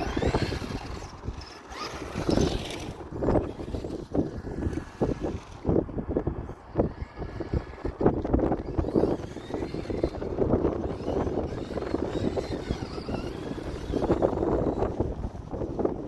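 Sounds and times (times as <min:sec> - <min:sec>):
toy truck motor whine: 0:00.0 - 0:05.7, 0:06.8 - 0:16.0
gusty wind on microphone: 0:00.0 - 0:16.0.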